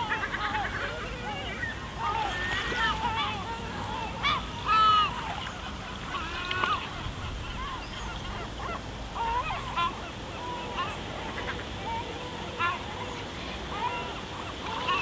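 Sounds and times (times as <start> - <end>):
seagulls calling: 0.0 - 15.0.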